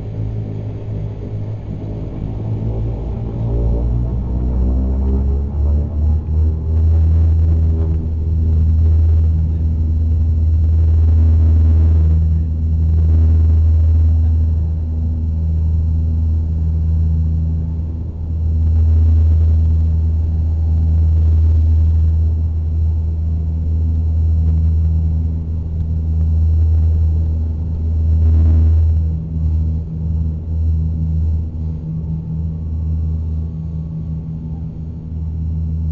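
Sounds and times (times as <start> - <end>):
low propeller drone: 0.0 - 35.9.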